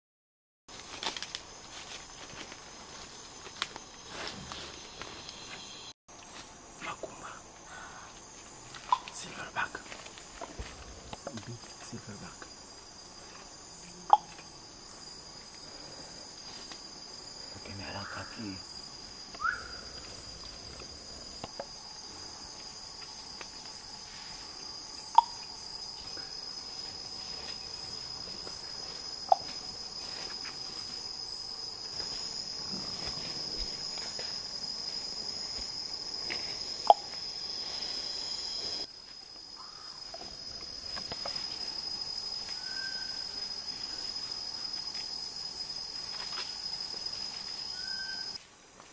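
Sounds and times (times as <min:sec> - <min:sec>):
high-pitched insect drone: 0:01.8 - 0:48.4.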